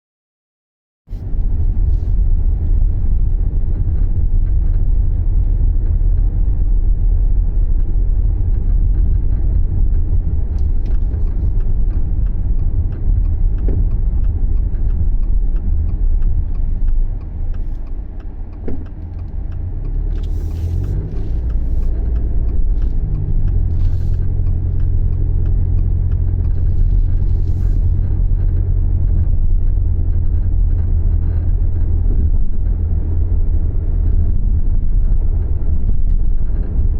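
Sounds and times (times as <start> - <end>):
car engine and road noise: 1.1 - 36.9.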